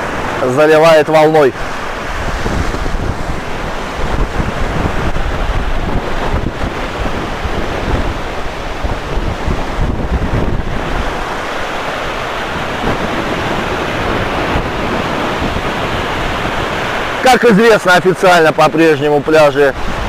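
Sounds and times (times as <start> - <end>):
storm surf breaking on beach: 0.0 - 20.0
wind buffeting microphone: 0.0 - 20.0.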